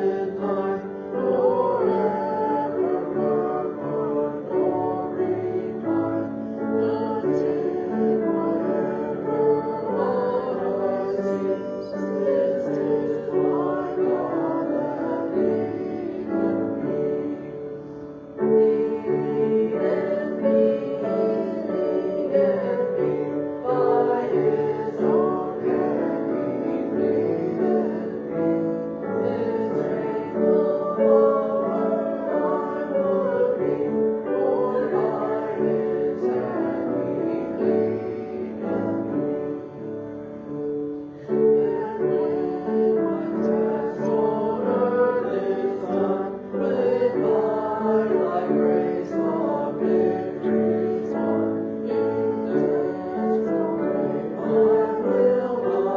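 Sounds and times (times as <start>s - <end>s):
piano accompaniment: 0.0s - 55.9s
voices singing church music: 0.0s - 55.9s.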